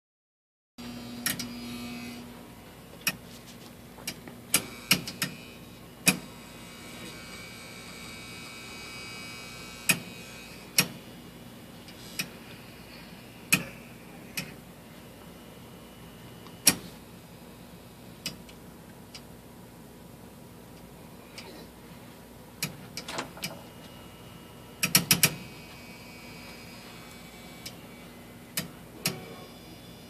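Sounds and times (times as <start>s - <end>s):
furnace humming: 0.8s - 30.0s.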